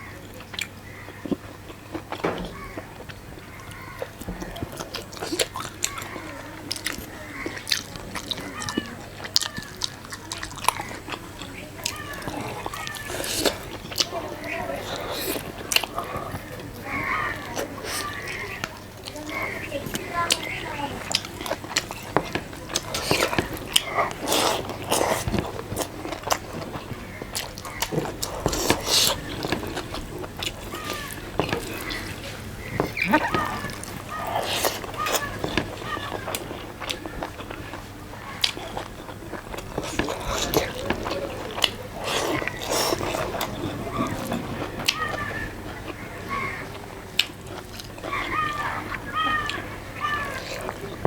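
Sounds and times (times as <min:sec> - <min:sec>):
person chewing food: 0:00.2 - 0:51.0.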